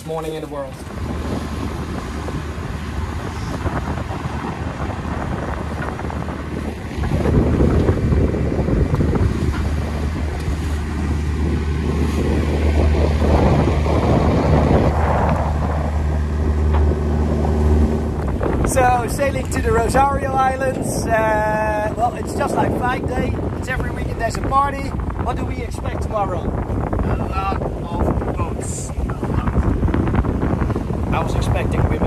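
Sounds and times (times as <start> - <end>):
boat engine running: 0.0 - 32.0
water rushing past: 0.0 - 32.0
wind buffeting microphone: 0.0 - 32.0.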